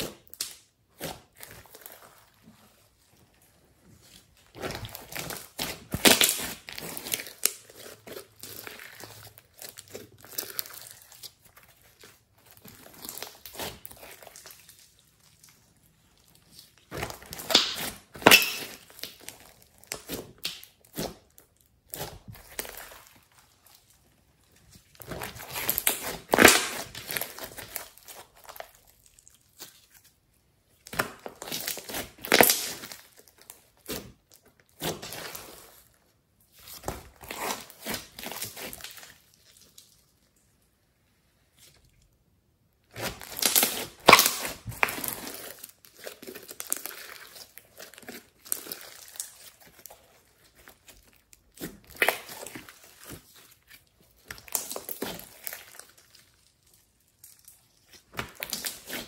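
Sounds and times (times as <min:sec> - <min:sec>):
hands squeezing slime: 0:00.0 - 0:42.2, 0:42.8 - 0:59.0.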